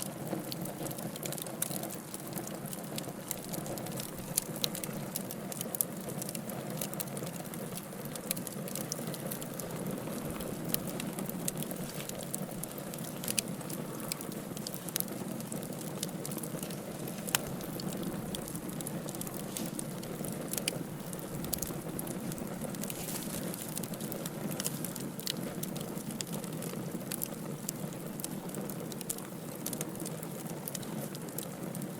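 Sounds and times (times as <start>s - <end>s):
wood crackling and popping: 0.0s - 31.9s
fire flames rushing: 0.2s - 31.9s.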